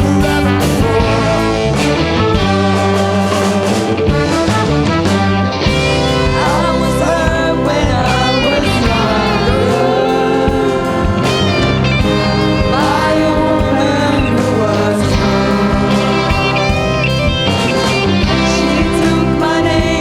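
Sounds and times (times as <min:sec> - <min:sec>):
jazz band playing: 0:00.0 - 0:20.0
vocalists singing: 0:00.0 - 0:20.0.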